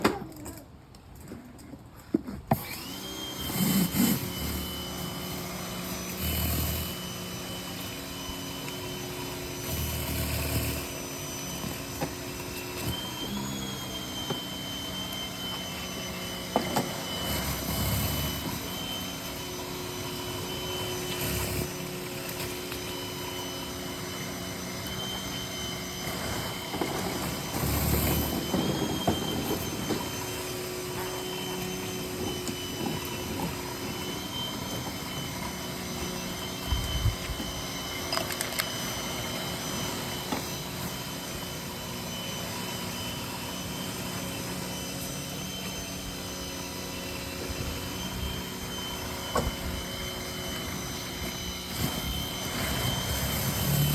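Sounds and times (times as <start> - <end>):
pressure washer whining: 2.5 - 53.9.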